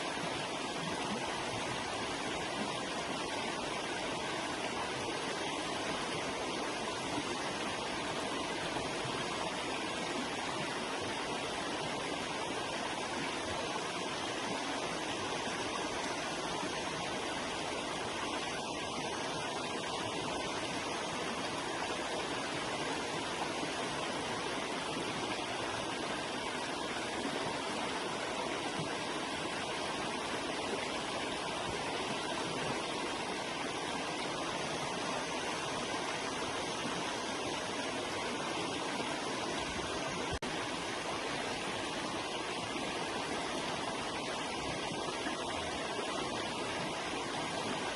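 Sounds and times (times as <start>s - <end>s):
river water rushing and babbling: 0.0s - 47.9s.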